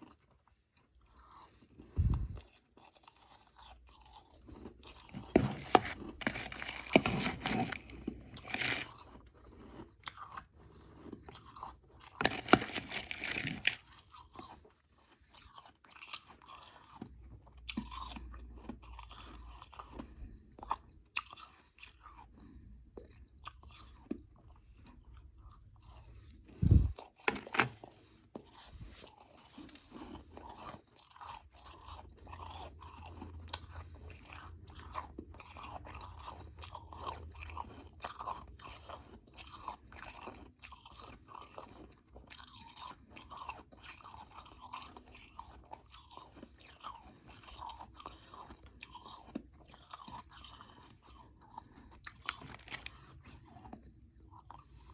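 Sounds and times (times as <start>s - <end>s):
chewing ice crunches: 0.0s - 26.3s, 28.4s - 54.9s.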